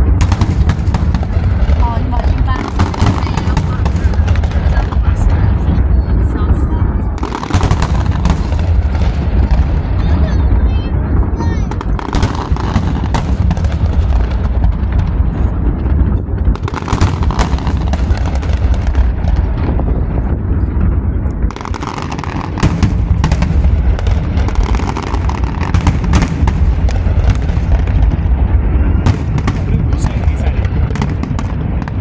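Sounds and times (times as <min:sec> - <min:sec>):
fireworks bangs and crackles: 0:00.0 - 0:32.0
low rumble: 0:00.0 - 0:32.0.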